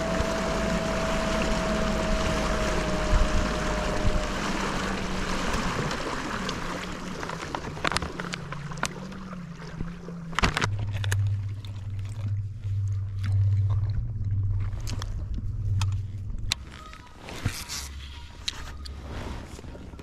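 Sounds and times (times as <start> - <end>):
low steady hum: 0.0 - 20.0
water rushing along kayak hull: 0.0 - 20.0.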